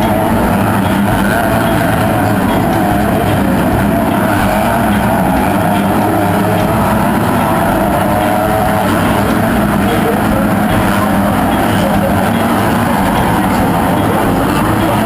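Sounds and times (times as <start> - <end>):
motocross bike engines running: 0.0 - 15.0.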